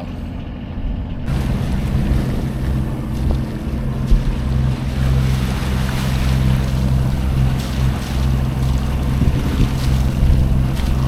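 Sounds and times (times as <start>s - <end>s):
boat engine humming: 0.0s - 11.0s
water noise: 0.0s - 11.0s.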